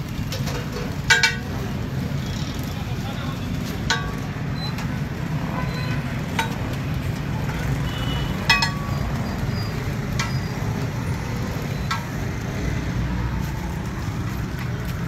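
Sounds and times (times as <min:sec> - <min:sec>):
motorbikes passing: 0:00.0 - 0:15.0
street traffic rumble: 0:00.0 - 0:15.0.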